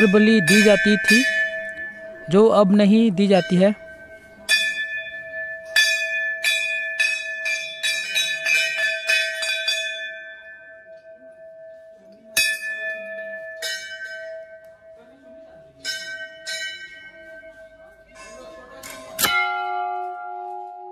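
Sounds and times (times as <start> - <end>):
temple bell ringing: 0.0 - 20.9.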